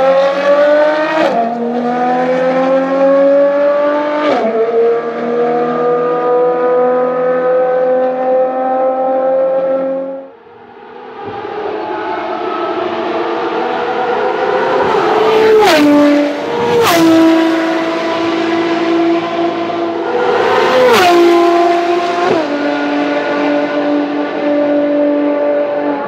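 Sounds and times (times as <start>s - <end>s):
sports car engine accelerating: 0.0s - 26.0s.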